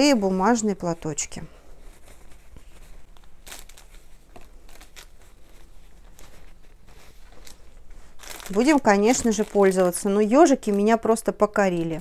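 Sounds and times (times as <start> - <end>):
tissue packs rustling: 0.0 - 12.0.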